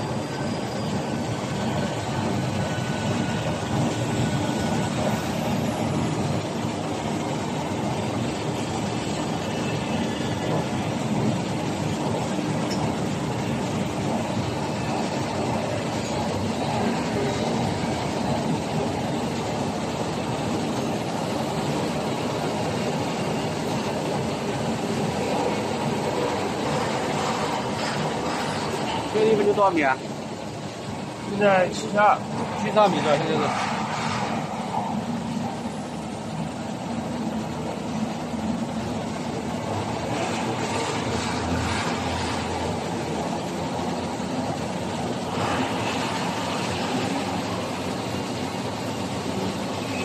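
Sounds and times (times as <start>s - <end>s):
printing press running: 0.0s - 50.0s.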